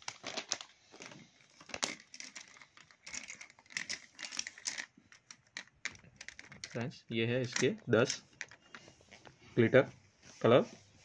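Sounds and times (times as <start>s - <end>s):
plastic pens clicking and rattling: 0.0s - 9.2s.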